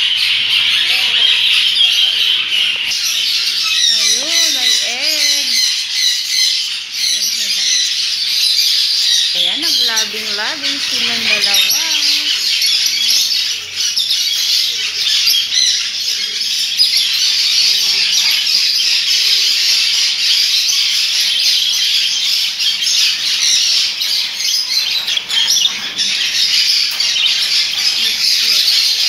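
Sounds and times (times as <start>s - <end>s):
caged birds chirping: 0.0s - 29.0s.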